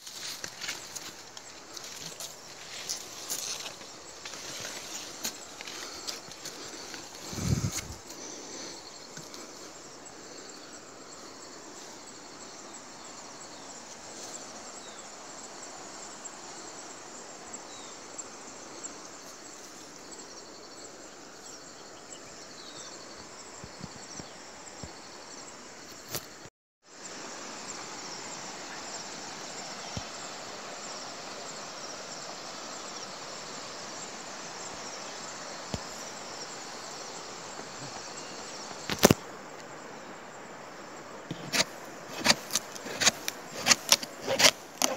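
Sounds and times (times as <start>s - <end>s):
insects buzzing: 0.0s - 44.9s
soft forest hiss: 0.0s - 44.9s.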